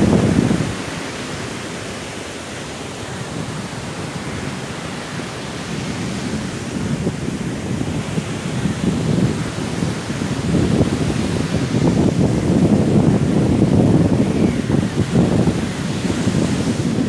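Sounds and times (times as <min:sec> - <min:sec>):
sea surf: 0:00.0 - 0:17.0
strong wind: 0:00.0 - 0:17.0.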